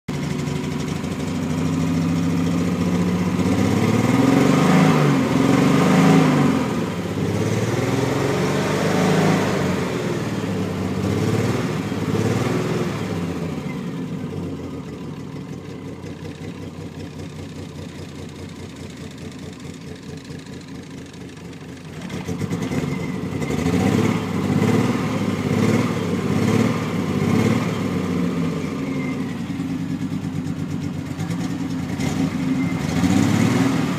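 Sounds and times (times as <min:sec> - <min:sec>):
engine idling: 0:00.1 - 0:33.9
misfiring car engine revving: 0:00.1 - 0:33.9.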